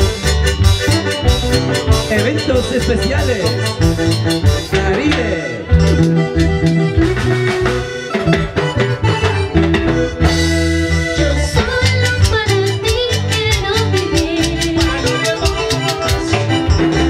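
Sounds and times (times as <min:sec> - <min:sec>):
acoustic guitar: 0:00.0 - 0:17.0
drum kit: 0:00.0 - 0:17.0
electric bass: 0:00.0 - 0:17.0
keyboard: 0:00.0 - 0:17.0.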